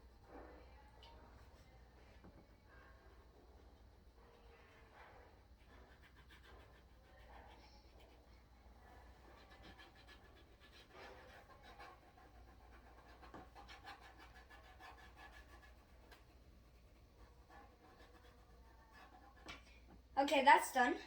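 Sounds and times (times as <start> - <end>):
marker scratching on plastic: 0.2 - 20.0.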